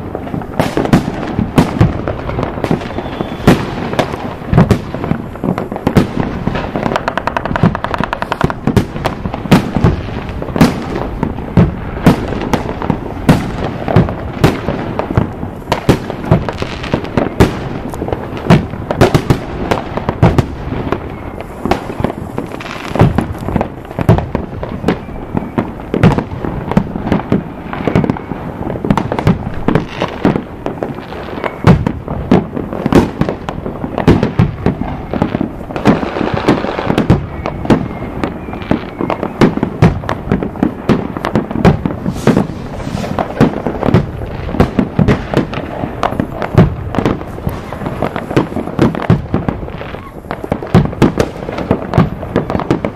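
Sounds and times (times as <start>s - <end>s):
fireworks bangs and cracks: 0.0s - 52.9s
fireworks crackling: 0.0s - 52.9s.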